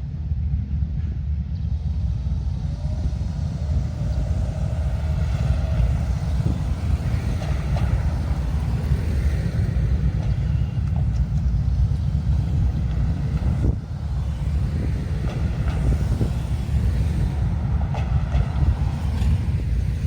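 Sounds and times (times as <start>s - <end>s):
vehicle passing with low rumble: 0.0s - 20.0s.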